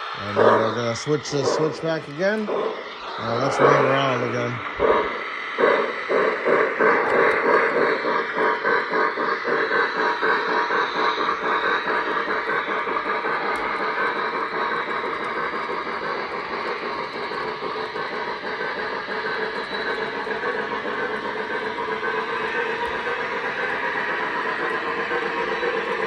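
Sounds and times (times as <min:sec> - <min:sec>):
model train wheels clattering on rails: 0:03.6 - 0:26.0.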